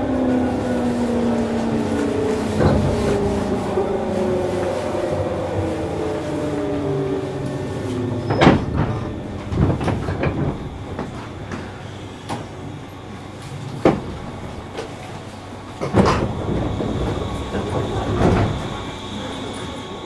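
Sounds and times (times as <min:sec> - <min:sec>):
clunks and knocks from train doors: 0:00.0 - 0:20.0
train running sound: 0:00.0 - 0:20.0.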